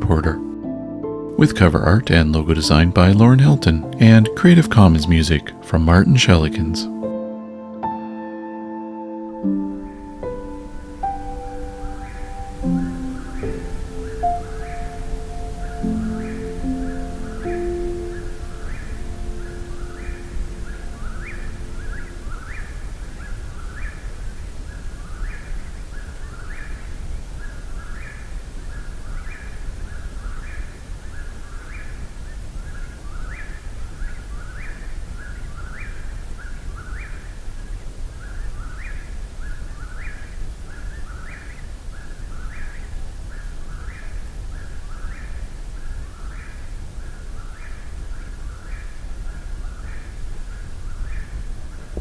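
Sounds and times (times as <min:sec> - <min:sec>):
bird singing: 0:09.4 - 0:52.0.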